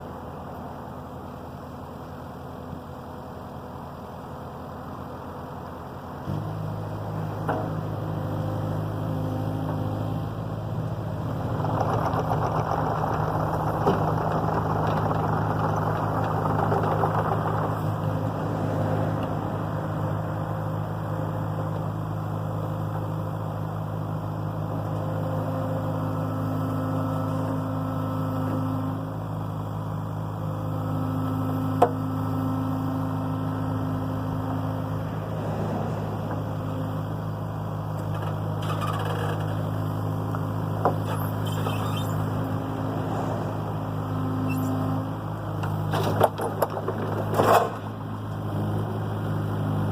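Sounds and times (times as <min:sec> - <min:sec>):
excavator diesel engine running: 0:00.0 - 0:49.9
hydraulic whine: 0:06.3 - 0:22.0, 0:24.7 - 0:49.9.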